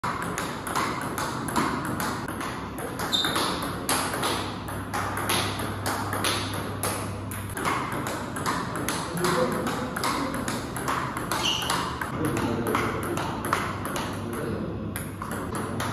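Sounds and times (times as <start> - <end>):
table tennis ball clicking: 0.1 - 15.9.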